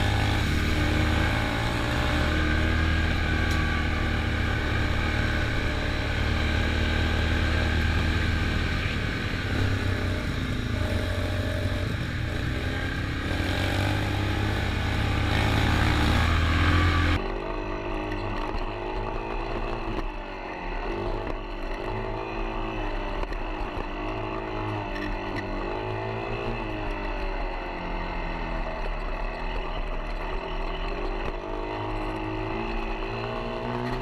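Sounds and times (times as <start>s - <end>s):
off-road vehicle engine: 0.0s - 34.0s.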